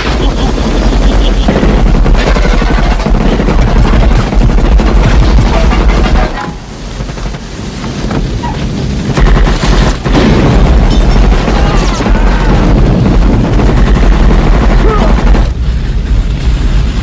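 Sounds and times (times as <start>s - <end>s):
submachine gun firing: 0.0s - 7.5s, 9.1s - 15.6s.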